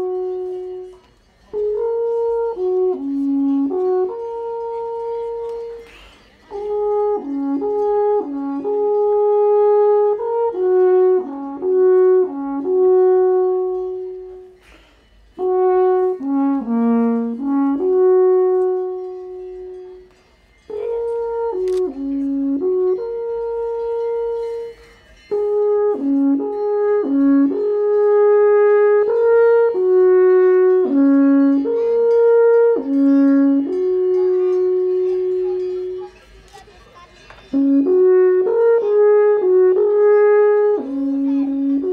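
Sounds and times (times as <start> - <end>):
alphorn melody: 0.0 - 41.9.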